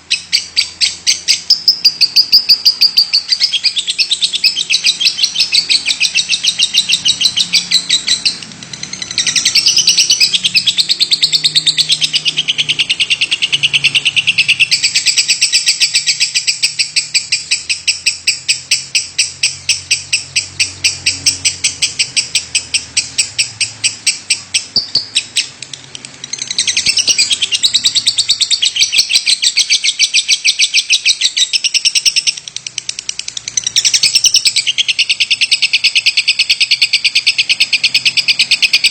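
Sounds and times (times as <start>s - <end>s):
lovebird chattering trill: 0.0s - 38.9s.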